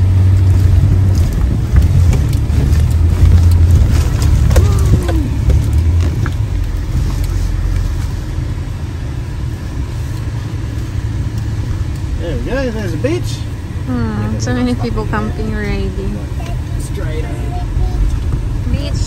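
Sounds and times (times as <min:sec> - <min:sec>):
knocks and rattles from rough ride: 0:00.0 - 0:19.0
vehicle engine rumbling under load: 0:00.0 - 0:19.0.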